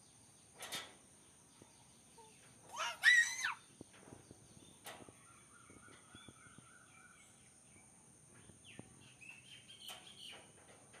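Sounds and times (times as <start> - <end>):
faint high chirping calls: 0.0 - 10.6.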